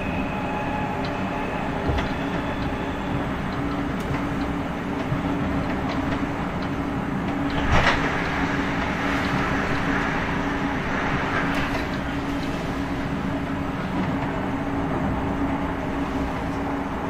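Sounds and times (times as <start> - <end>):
low train hum: 0.0 - 17.0
train wheel and track rumble: 0.0 - 17.0.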